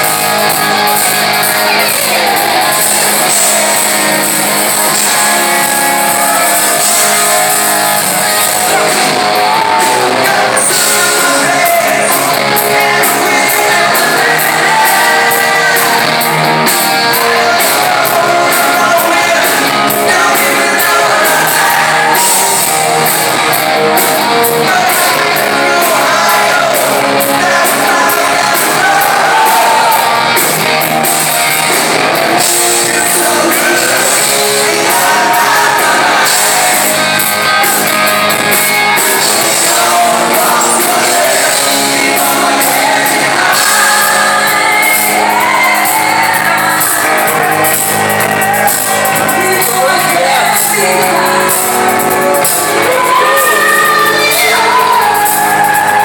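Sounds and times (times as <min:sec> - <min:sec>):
male lead vocal: 0:00.0 - 0:30.3, 0:32.1 - 0:56.0
live rock band: 0:00.0 - 0:56.0.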